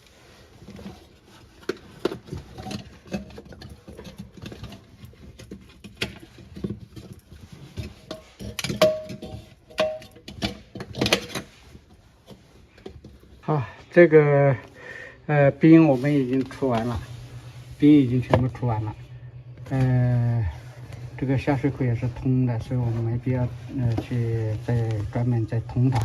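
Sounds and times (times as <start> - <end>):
knocks and scraping in freezer: 0.0 - 14.1, 15.6 - 26.0.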